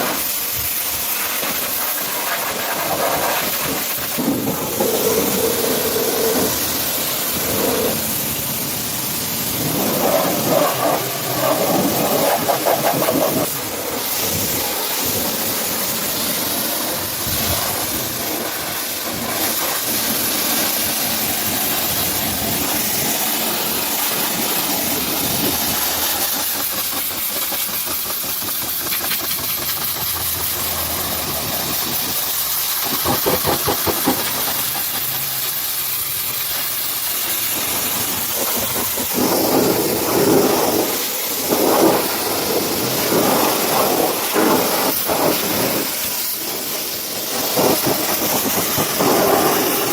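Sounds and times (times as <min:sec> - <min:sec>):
pressure washer spraying: 0:00.0 - 0:49.9
washer motor running: 0:02.4 - 0:49.9.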